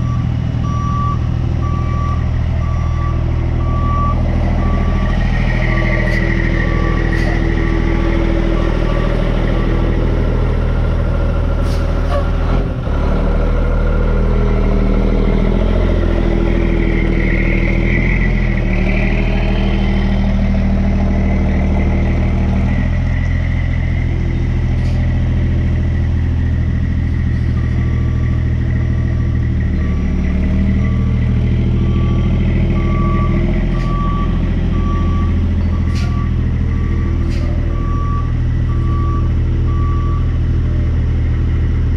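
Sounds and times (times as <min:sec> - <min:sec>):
tractor diesel engine working: 0:00.0 - 0:41.9.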